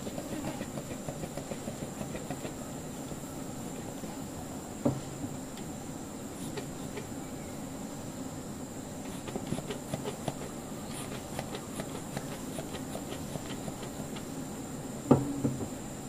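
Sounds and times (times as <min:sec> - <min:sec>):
bee smoker puffs: 0:00.0 - 0:04.1, 0:05.0 - 0:15.0.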